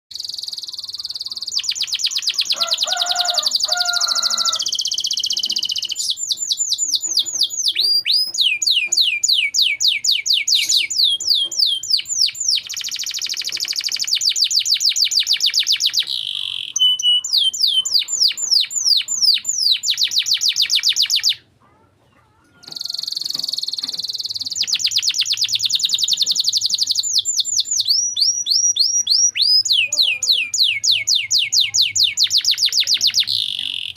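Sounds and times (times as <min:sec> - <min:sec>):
canary singing trills: 0:00.1 - 0:33.9.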